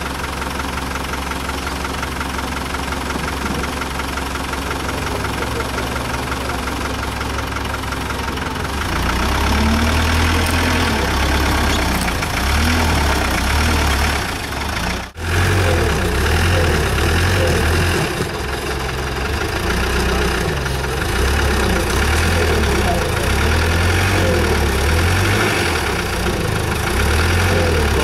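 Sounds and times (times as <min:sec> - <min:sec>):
off-road truck engine revving: 0:00.0 - 0:28.0.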